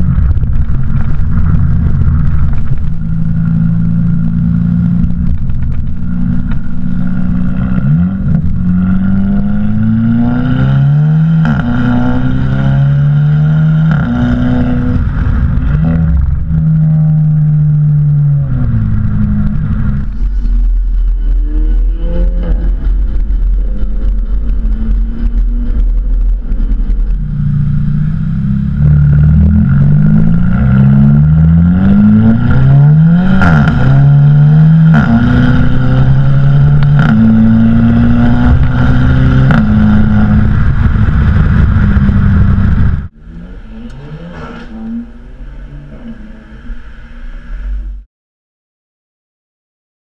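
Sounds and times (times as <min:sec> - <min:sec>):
exhaust cracking: 0:00.0 - 0:48.0
car engine revving through shifts: 0:00.2 - 0:46.9.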